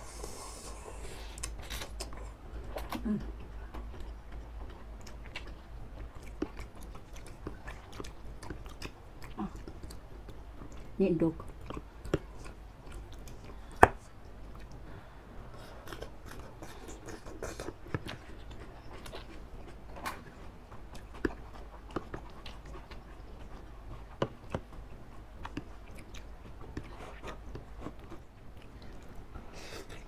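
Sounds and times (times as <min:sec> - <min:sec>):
wet chewing: 0:01.2 - 0:14.8, 0:15.6 - 0:30.0.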